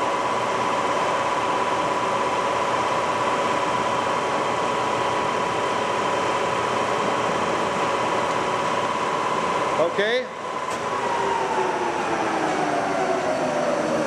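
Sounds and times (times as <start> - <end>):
lathe whirring with high whine: 0.0 - 14.0.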